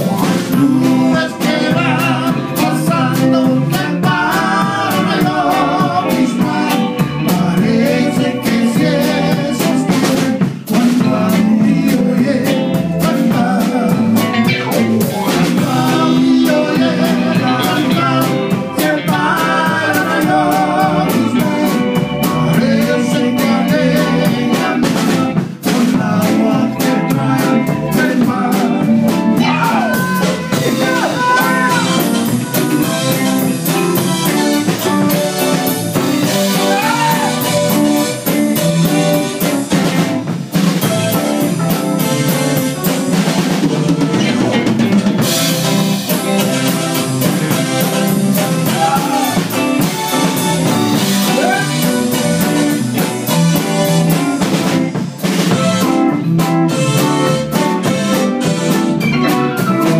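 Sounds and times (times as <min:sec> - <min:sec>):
man singing: 0:00.0 - 0:39.2, 0:43.3 - 0:53.4
drum kit: 0:00.0 - 0:59.9
electric guitars: 0:00.0 - 0:59.9.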